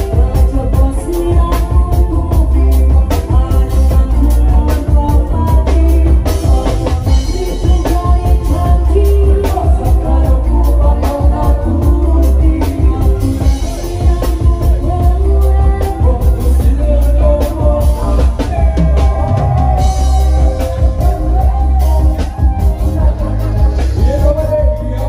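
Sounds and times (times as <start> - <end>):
deep bass: 0.0 - 25.0
drum beat: 0.0 - 25.0
person singing into microphone: 0.0 - 25.0.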